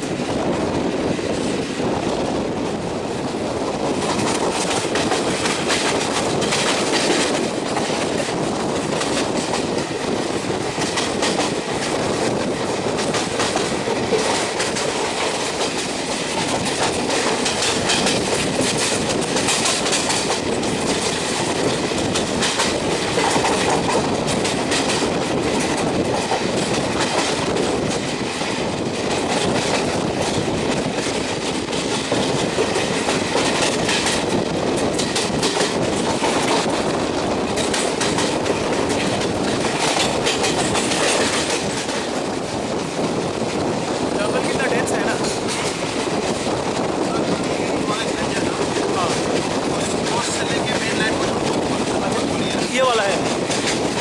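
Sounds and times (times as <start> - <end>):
rush of train wheels and wind: 0.0 - 54.0
wheels clattering over rail joints: 3.9 - 54.0.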